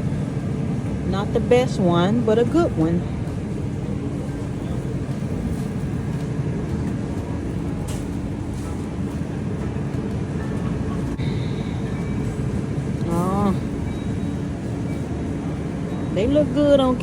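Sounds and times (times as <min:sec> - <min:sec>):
supermarket background hum: 0:00.0 - 0:17.0.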